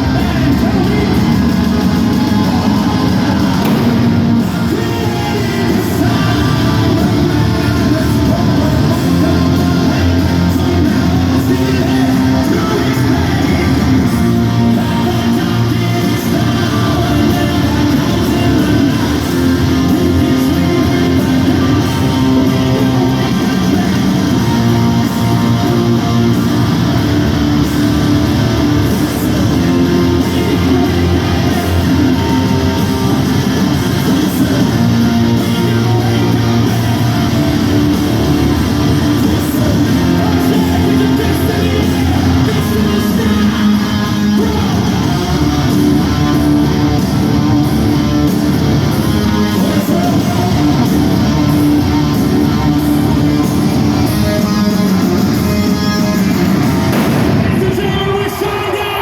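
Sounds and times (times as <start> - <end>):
distorted electric guitars: 0.0 - 59.0
drums: 0.0 - 59.0
person singing: 0.0 - 59.0.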